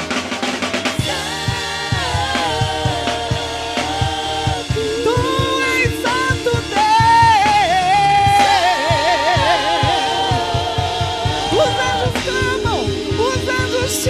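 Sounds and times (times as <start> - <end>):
band with steady drum beat: 0.0 - 14.0
person singing gospel song: 0.0 - 14.0.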